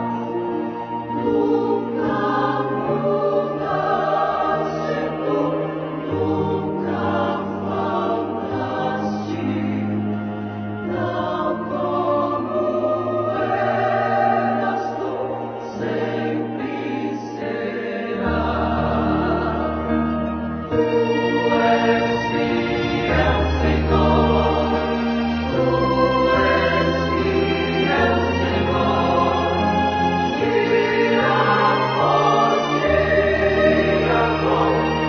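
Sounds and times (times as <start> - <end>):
choir singing: 0.0 - 35.0.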